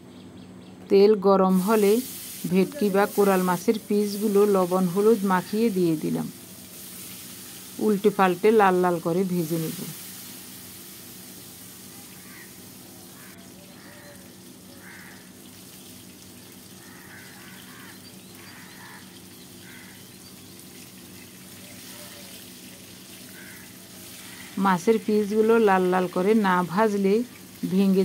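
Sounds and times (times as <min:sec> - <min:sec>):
fish sizzling in hot oil: 0:01.5 - 0:28.0.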